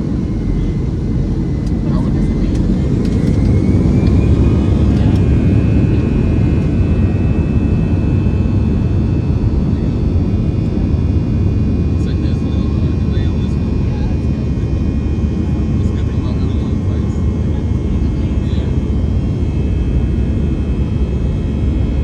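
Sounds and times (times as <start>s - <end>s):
jet engine whine: 0.0s - 22.0s
jet engines rumbling: 0.0s - 22.0s.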